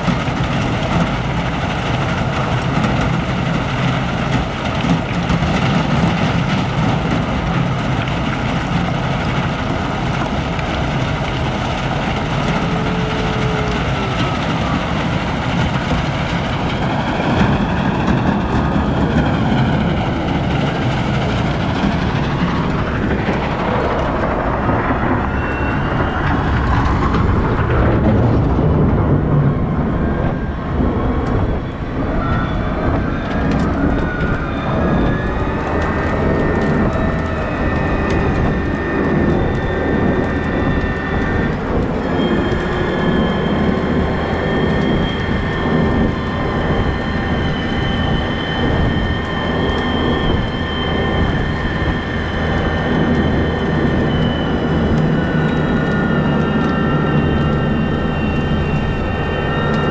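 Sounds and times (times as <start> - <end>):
rising and falling whine: 0.0 - 59.9
wheel loader engine running: 0.0 - 59.9.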